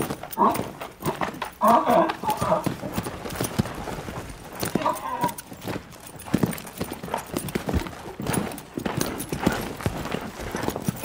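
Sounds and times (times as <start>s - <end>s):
horse hoofbeats: 0.0s - 11.0s.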